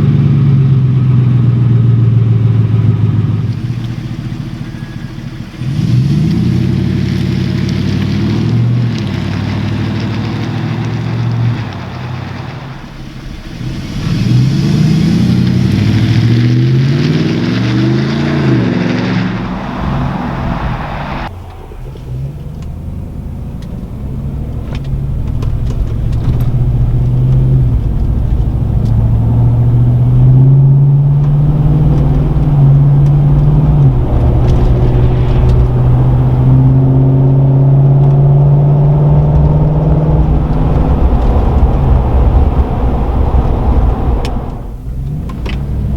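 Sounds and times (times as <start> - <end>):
truck exhaust revving: 0.0 - 45.9.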